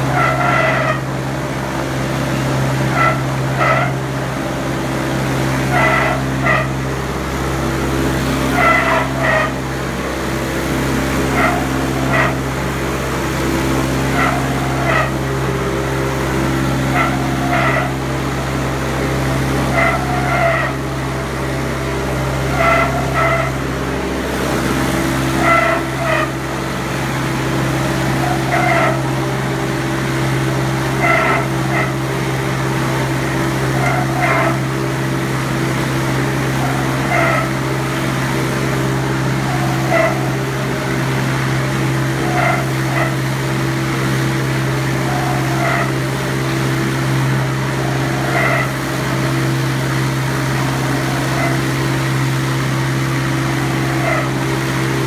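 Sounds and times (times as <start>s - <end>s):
meat bowl cutter humming: 0.0s - 55.0s.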